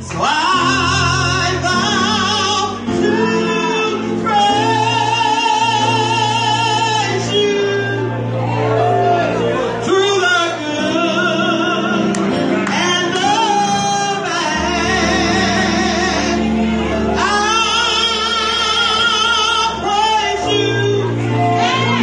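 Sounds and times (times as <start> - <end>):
instrumental accompaniment: 0.0 - 22.0.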